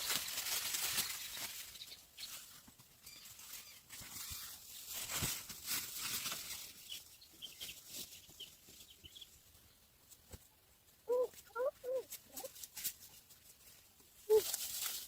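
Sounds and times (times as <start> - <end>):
dry corn leaves rustling: 0.0 - 15.0.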